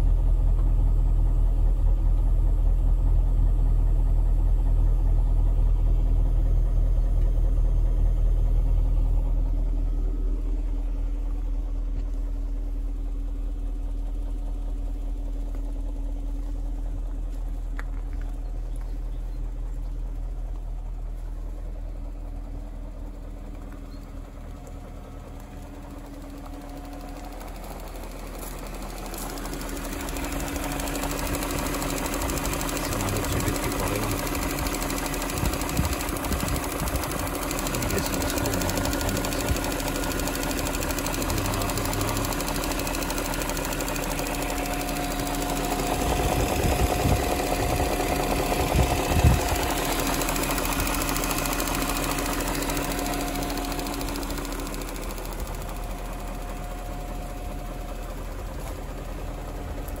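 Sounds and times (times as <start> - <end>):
car engine idling: 0.0 - 60.0
engine knock: 0.0 - 60.0.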